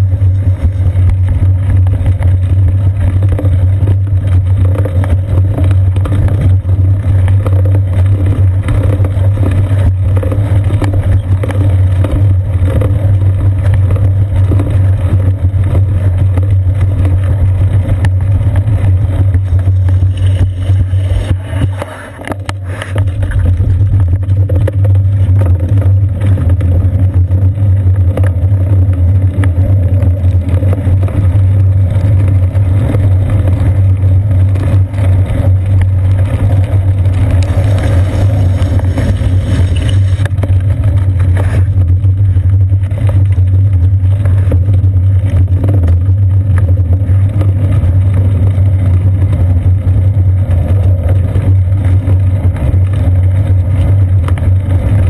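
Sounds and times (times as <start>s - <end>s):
road vibration rumble: 0.0s - 55.0s
wind on camera: 0.0s - 55.0s.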